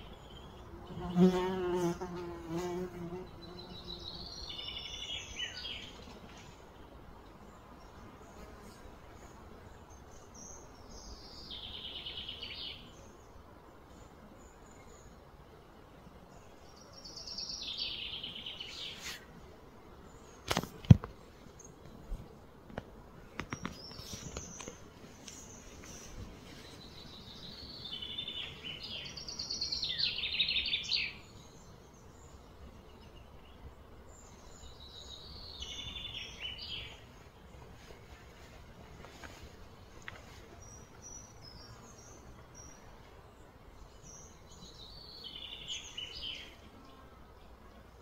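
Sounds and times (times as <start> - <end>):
outdoor background noise: 0.0 - 48.0.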